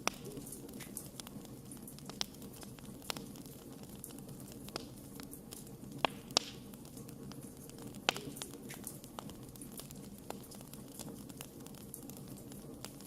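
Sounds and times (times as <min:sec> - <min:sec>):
campfire crackling and popping: 0:00.0 - 0:13.0
low steady fire hiss: 0:00.0 - 0:13.0.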